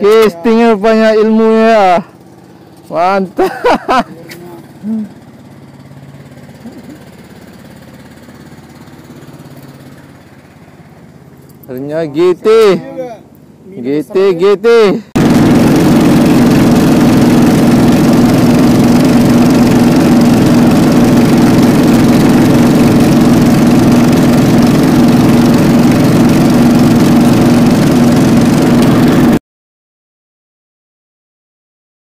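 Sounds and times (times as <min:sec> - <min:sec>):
boat engine running: 0:00.0 - 0:29.4.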